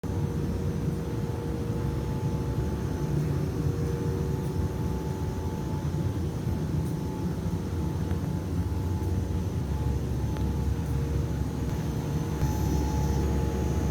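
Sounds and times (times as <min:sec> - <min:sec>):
machine low rumble: 0:00.0 - 0:13.9
faint steady hum: 0:00.1 - 0:13.9.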